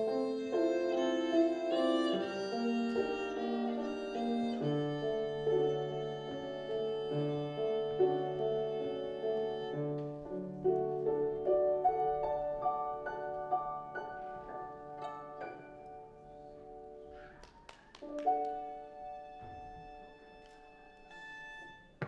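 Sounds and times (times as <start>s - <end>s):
violin: 0.0s - 16.5s, 18.4s - 22.0s
piano: 0.0s - 22.0s.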